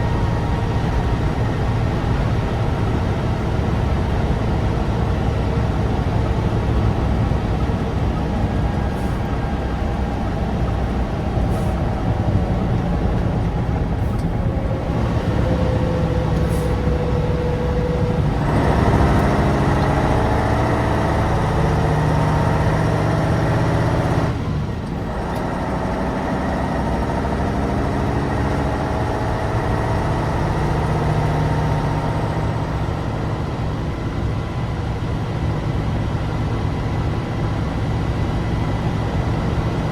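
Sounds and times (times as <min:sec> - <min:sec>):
truck engine revving: 0:00.0 - 0:35.2.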